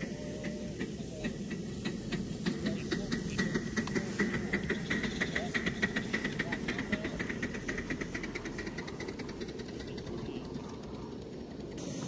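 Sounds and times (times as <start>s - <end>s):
steam locomotive exhaust beats: 0.0s - 12.0s.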